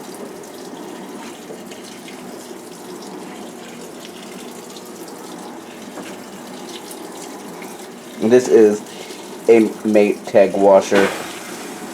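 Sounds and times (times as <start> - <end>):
water rushing into washing machine: 0.0 - 11.9.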